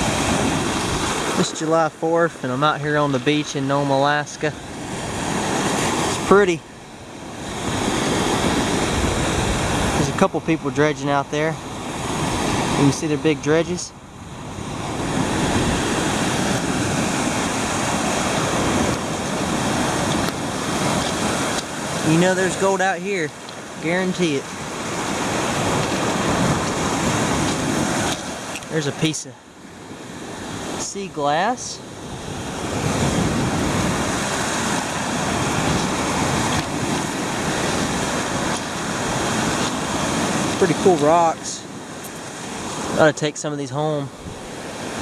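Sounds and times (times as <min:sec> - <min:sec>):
surf on a pebble beach: 0:00.0 - 0:45.0.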